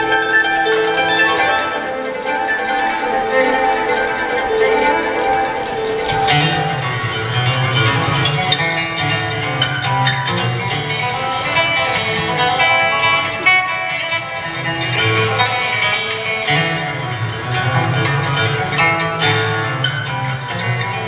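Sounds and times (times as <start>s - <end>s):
acoustic string band playing folk: 0.0s - 21.0s.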